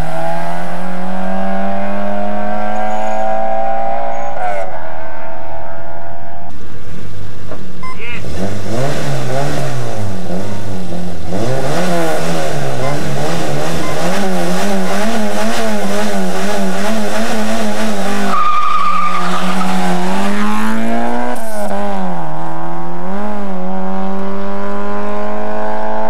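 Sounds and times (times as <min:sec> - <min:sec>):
car engine accelerating hard: 0:00.0 - 0:26.0
rally car engine revving: 0:00.0 - 0:26.0.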